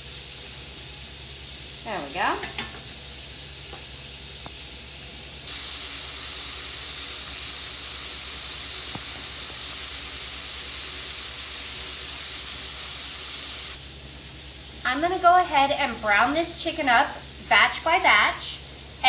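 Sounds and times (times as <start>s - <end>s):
chicken sizzling in a skillet: 0.0s - 19.0s.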